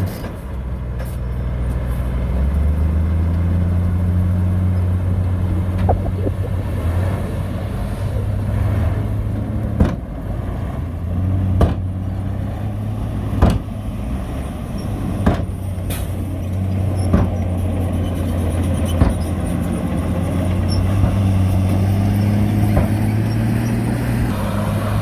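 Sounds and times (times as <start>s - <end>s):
diesel engine running low: 0.0s - 25.0s.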